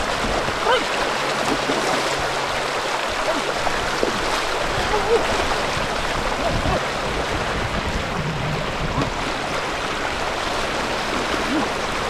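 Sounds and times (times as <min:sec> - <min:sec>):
floodwater rushing and splashing: 0:00.0 - 0:12.0.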